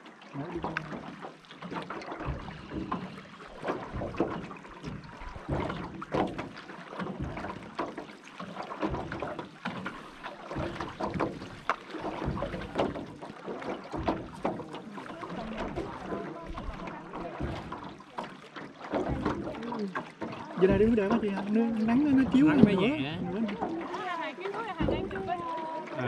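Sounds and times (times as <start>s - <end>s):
oar strokes with knocks: 0.0s - 26.0s
water splashes: 0.0s - 26.0s.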